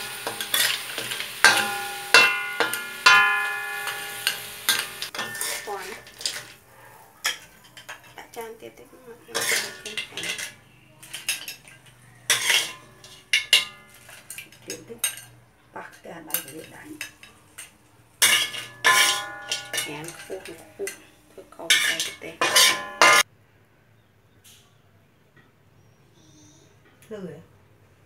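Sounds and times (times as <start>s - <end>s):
metal spoon scraping a wok: 0.0s - 8.4s, 9.2s - 23.3s.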